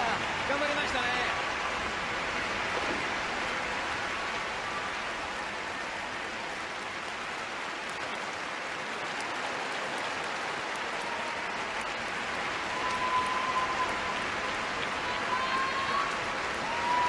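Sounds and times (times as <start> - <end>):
large crowd applauding: 0.0 - 17.0.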